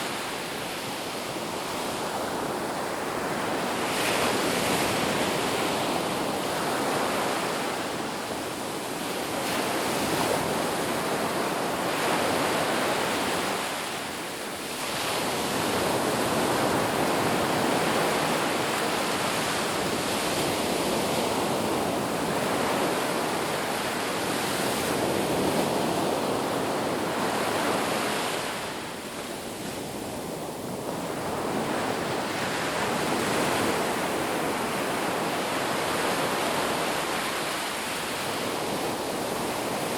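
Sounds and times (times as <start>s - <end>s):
ocean surf washing on beach: 0.0s - 39.9s.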